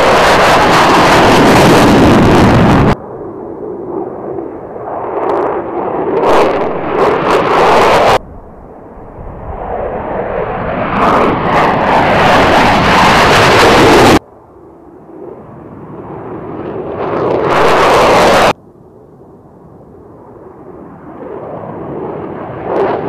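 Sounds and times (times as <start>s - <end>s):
fighter jet engines taking off: 0.0s - 14.3s, 14.9s - 18.6s, 20.3s - 23.0s.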